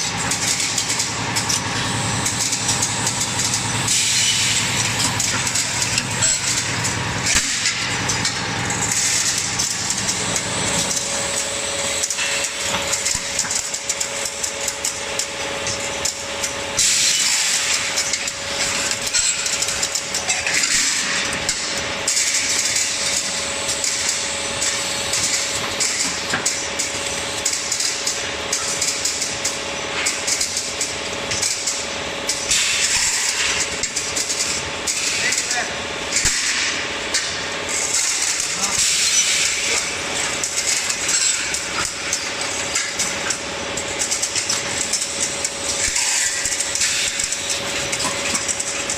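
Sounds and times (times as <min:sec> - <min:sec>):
machinery clattering: 0:00.0 - 0:48.9
steady machine hum: 0:00.0 - 0:48.9.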